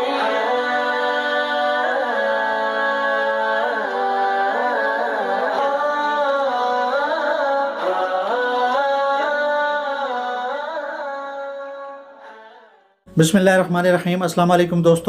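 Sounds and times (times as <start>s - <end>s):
layered singing voices: 0.0s - 12.8s.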